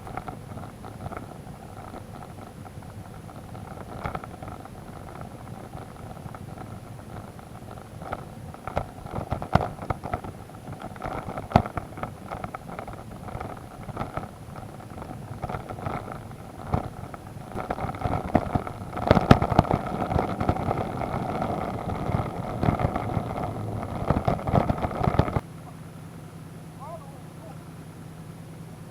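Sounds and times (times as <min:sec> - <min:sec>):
sharp knocks and rattles: 0:00.0 - 0:25.4
motorcycle engine running: 0:00.0 - 0:28.9.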